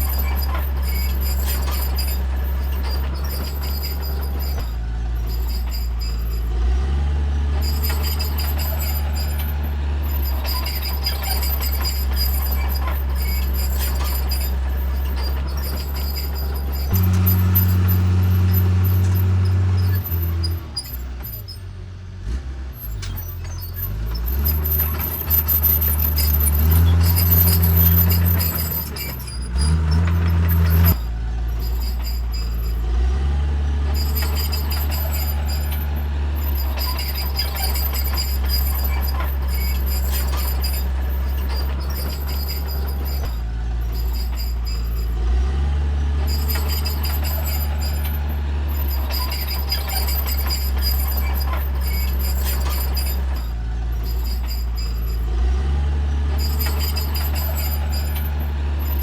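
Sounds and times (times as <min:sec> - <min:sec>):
bulldozer diesel engine revving: 0:00.0 - 0:59.0.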